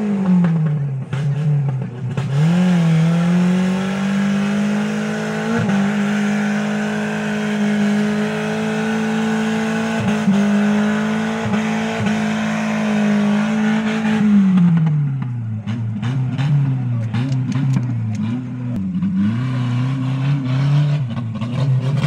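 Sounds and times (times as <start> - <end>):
car engine revving under load: 0.0 - 22.0.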